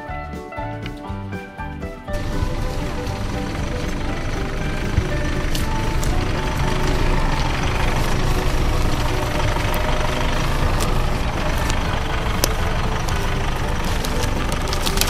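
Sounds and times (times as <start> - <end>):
diesel engine running: 2.1 - 15.0
sharp clicks: 2.2 - 15.0.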